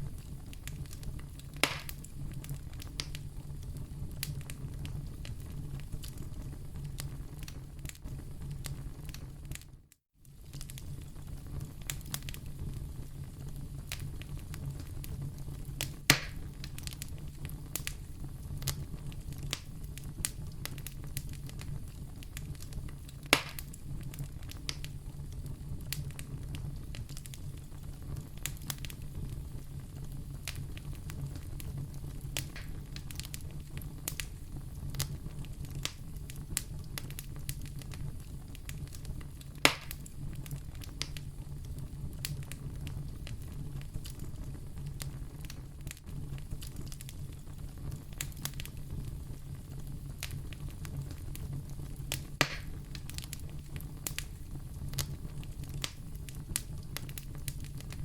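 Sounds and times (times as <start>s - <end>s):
loud pops of fire: 0.0s - 9.7s, 10.3s - 58.0s
wood fire crackling: 0.0s - 58.0s.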